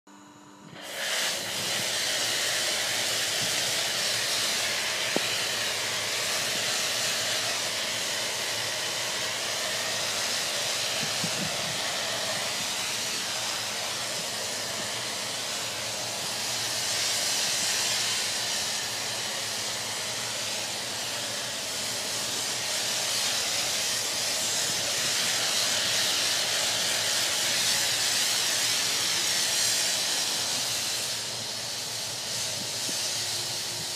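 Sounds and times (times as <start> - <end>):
foam lance spraying hiss: 0.8 - 33.9.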